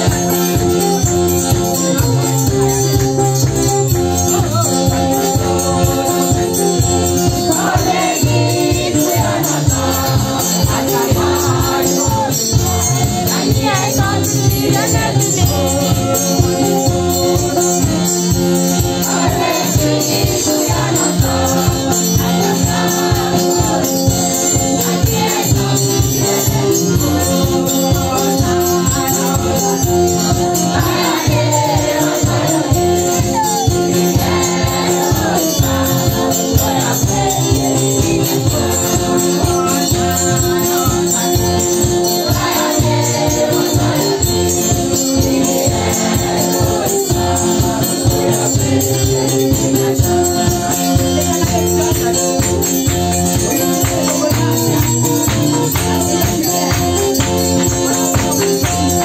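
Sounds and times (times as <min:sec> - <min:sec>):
rattling percussion: 0:00.0 - 0:59.0
steady rhythmic beat: 0:00.0 - 0:59.0
choir singing a hymn: 0:05.1 - 0:17.9, 0:18.7 - 0:52.2, 0:53.3 - 0:59.0.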